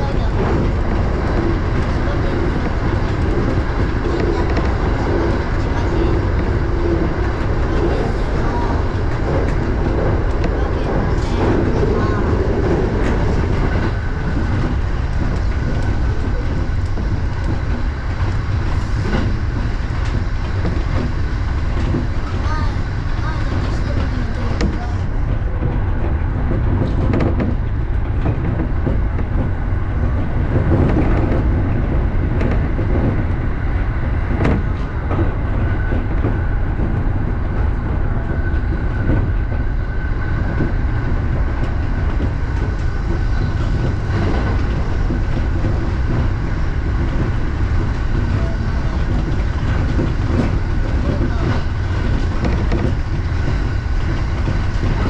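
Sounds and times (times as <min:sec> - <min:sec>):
train rumbling at speed: 0:00.0 - 0:55.0
wheels clattering on rails: 0:00.0 - 0:55.0.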